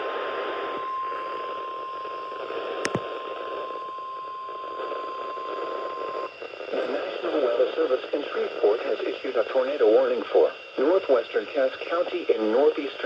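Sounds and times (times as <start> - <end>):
radio static hiss: 0.0 - 13.0
steady high alarm tone: 0.0 - 13.0.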